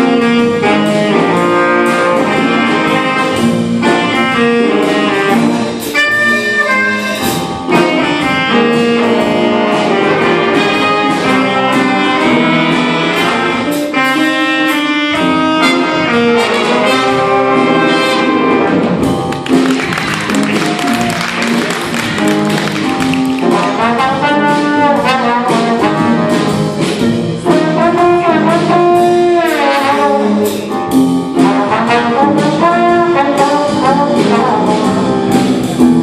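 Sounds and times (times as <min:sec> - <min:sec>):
jazz big band playing: 0:00.0 - 0:36.0.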